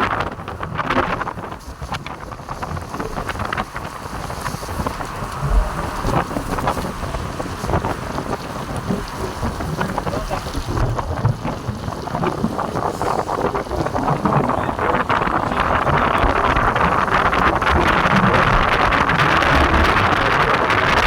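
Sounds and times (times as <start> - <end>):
heavy rain falling: 0.0 - 21.0
wind gusting on microphone: 0.0 - 21.0.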